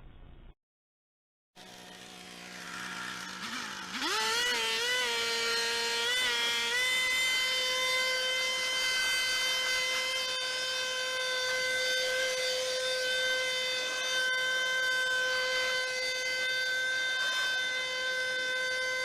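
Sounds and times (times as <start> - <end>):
leaf blower whining: 1.6 - 19.0.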